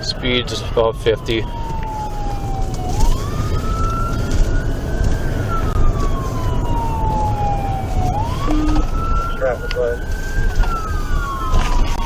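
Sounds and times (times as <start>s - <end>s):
car engine and tyres rumbling: 0.0s - 12.0s
police siren wailing: 0.0s - 12.0s.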